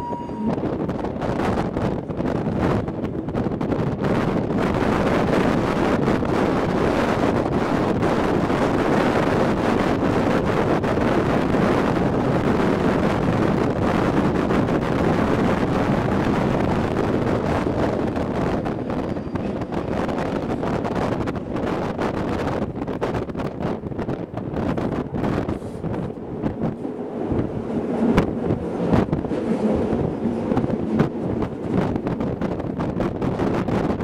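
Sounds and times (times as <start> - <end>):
train running noise: 0.0 - 34.0
wind buffeting microphone: 0.0 - 34.0.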